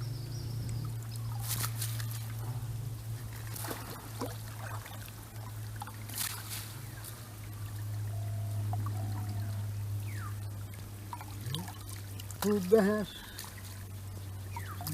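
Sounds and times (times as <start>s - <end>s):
steady low hum: 0.0s - 14.9s
water splashing and trickling: 0.0s - 14.9s.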